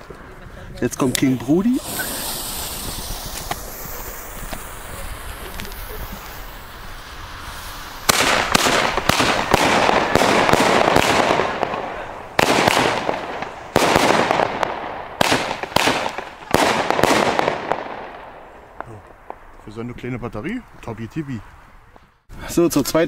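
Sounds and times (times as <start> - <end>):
firework shots crackling: 1.0 - 19.6.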